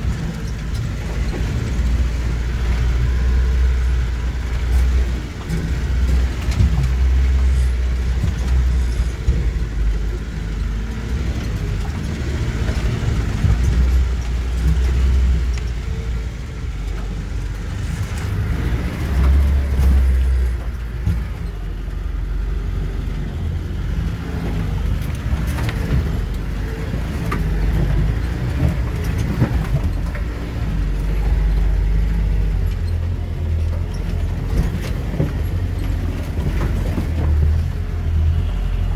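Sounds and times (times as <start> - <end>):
knocks and rattles: 0.0 - 22.0, 23.2 - 38.4
car engine rumble: 0.0 - 38.9.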